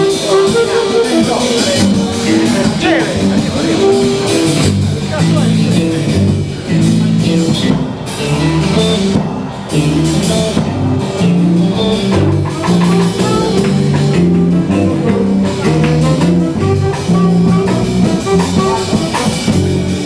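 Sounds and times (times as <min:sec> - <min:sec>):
bass line: 0:00.0 - 0:20.0
drum kit: 0:00.0 - 0:20.0
guitar: 0:00.0 - 0:20.0.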